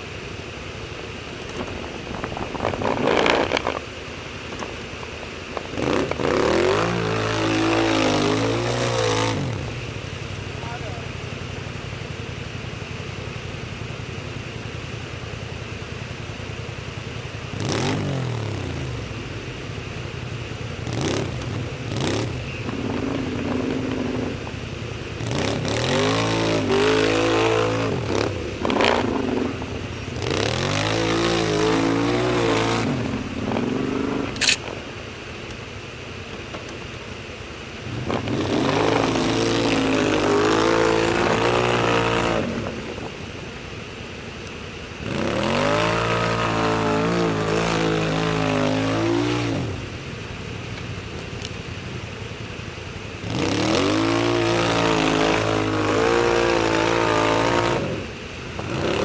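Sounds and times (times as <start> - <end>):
quad bike engines revving: 0.0 - 34.8, 37.6 - 59.0.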